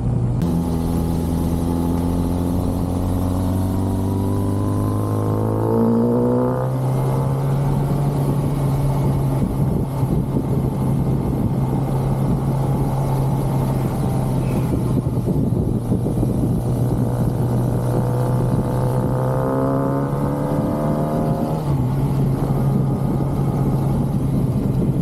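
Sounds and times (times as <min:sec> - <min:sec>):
dense rushing noise: 0:00.0 - 0:25.0
motorcycle engine accelerating: 0:00.0 - 0:25.0.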